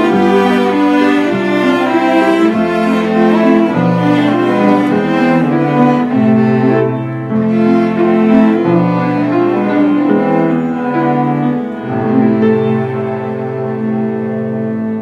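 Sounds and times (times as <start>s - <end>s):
bowed cello chords: 0.0s - 15.0s
piano accompaniment: 0.0s - 15.0s.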